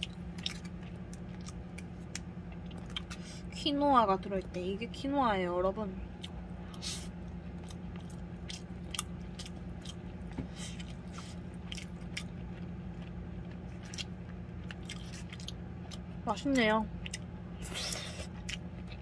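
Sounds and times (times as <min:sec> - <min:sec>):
chewing and biting food: 0:00.0 - 0:03.5, 0:06.1 - 0:19.0
low hum: 0:00.0 - 0:19.0.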